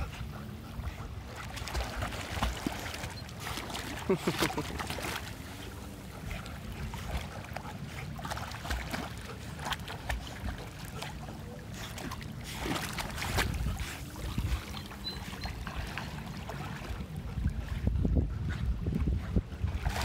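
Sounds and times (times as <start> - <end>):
water splashing: 0.0 - 18.0, 19.6 - 20.0.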